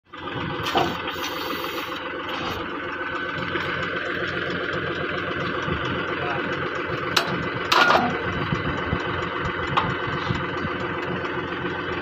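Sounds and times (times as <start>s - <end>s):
machine engine running: 0.1s - 12.0s.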